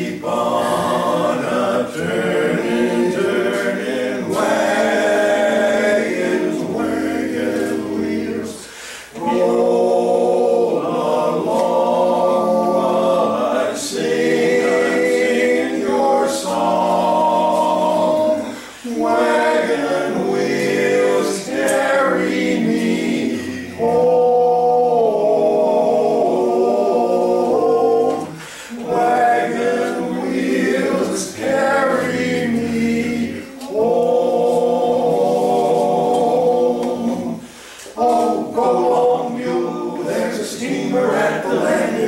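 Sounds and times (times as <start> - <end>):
male vocal quartet singing: 0.0 - 42.0.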